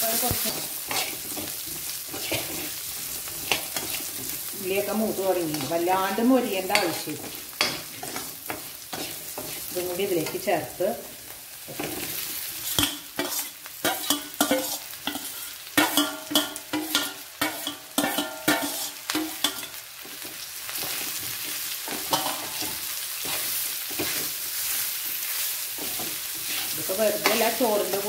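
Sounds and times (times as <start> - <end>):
oil sizzling: 0.0 - 28.0
spoon scraping a metal wok: 0.3 - 5.8, 6.6 - 10.5, 11.7 - 19.8, 20.8 - 28.0.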